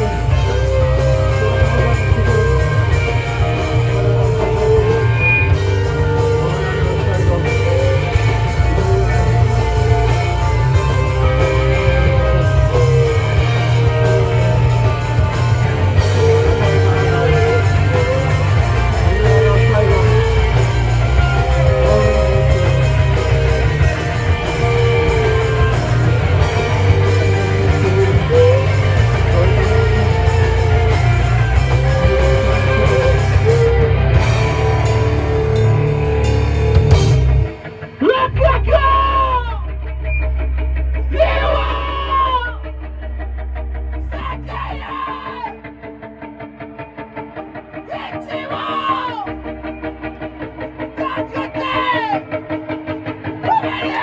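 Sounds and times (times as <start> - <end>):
guitar high melodic phrase: 0.0 - 54.0
rock band playing live: 0.0 - 54.0.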